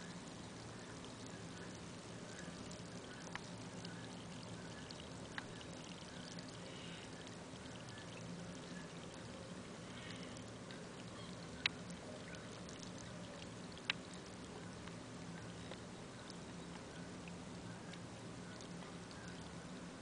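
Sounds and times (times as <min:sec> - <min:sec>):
faint low hum: 0:00.0 - 0:20.0
fermenting mash fizzing: 0:00.0 - 0:20.0.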